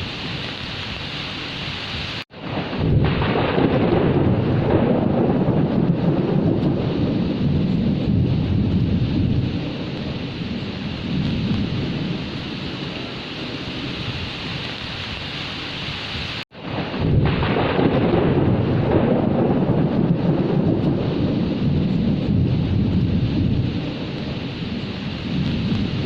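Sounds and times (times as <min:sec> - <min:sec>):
steady rain: 0:00.0 - 0:26.0
thunder rumbling: 0:00.0 - 0:26.0.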